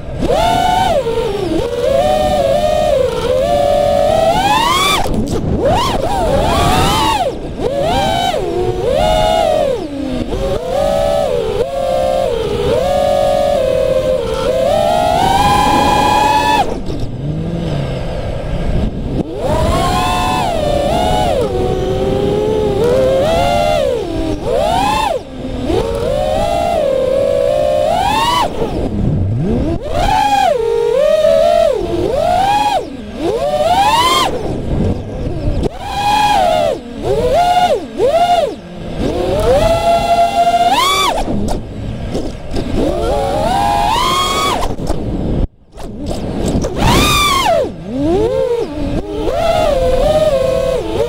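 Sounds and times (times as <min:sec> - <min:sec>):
drone motors and propellers whining: 0:00.0 - 0:51.0
wind rush on microphone: 0:00.0 - 0:51.0.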